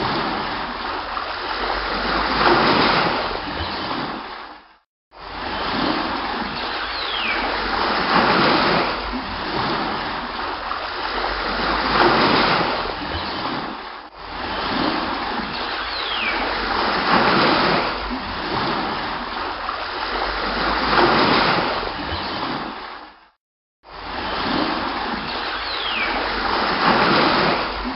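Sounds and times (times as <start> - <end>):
sea water splashing: 0.0 - 27.9.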